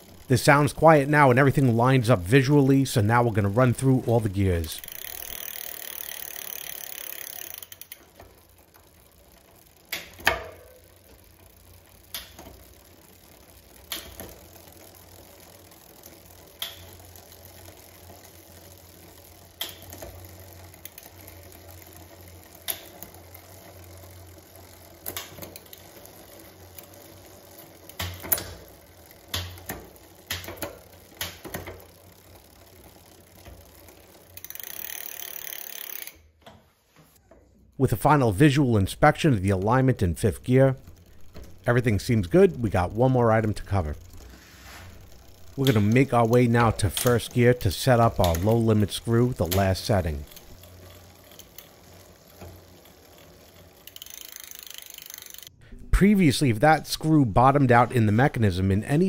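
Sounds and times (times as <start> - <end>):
bicycle chain running on wheel: 0.0 - 36.4, 39.0 - 55.6.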